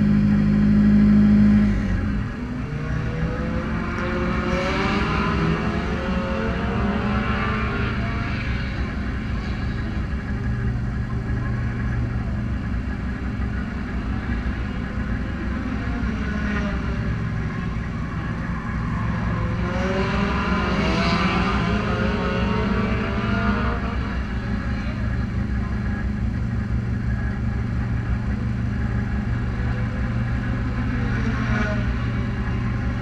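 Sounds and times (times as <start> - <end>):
engine revving: 0.0 - 33.0
race car engines idling: 0.0 - 33.0.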